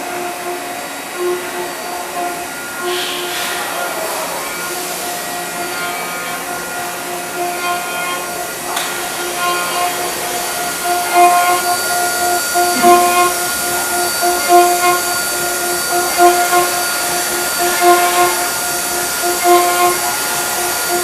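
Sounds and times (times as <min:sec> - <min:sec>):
milling machine spindle hiss: 0:00.0 - 0:21.0
whining motor tones: 0:00.0 - 0:21.0.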